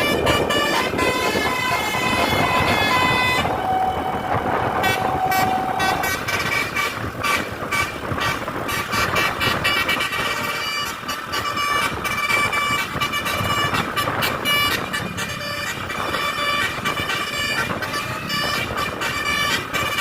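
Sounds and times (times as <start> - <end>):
musical air horn melody: 0.0 - 20.0.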